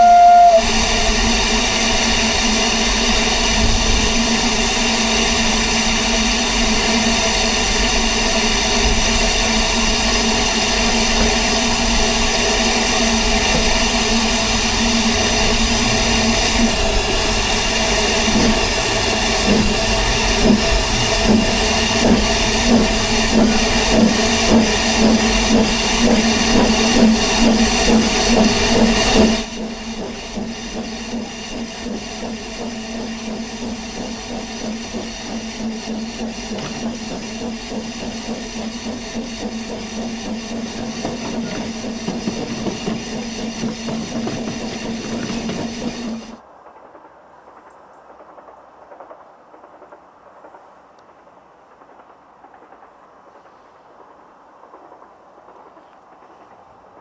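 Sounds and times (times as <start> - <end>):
steam hissing: 0.0 - 46.4
steam locomotive exhaust beats: 0.0 - 46.4.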